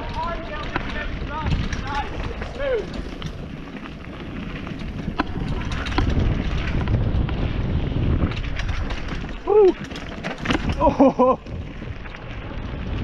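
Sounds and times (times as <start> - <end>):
bike tyres rolling on gravel: 0.0 - 13.0
sharp clicks and rattles: 0.0 - 13.0
wind buffeting microphone: 0.0 - 13.0.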